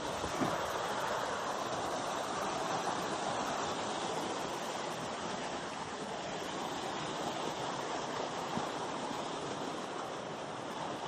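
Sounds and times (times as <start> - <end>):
water rushing over rock: 0.0 - 11.0.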